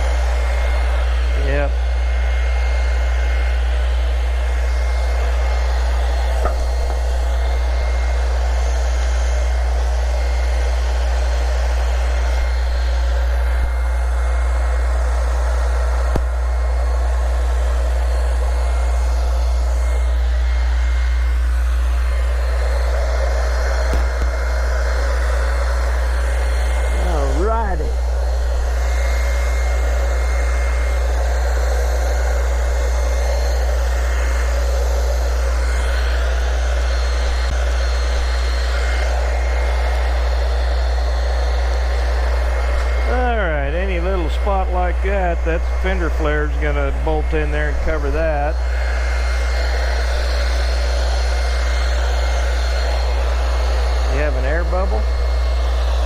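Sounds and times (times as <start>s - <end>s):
heat gun blowing: 0.0s - 56.0s
steady mechanical whir: 0.0s - 56.0s.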